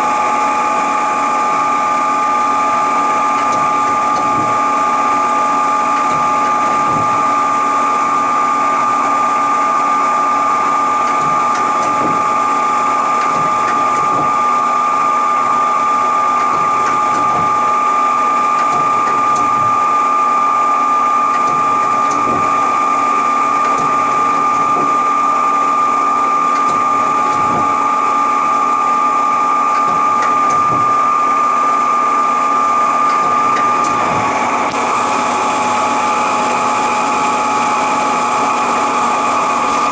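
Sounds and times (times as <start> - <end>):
lathe mechanical whine: 0.0 - 39.9
machine hum: 0.0 - 39.9.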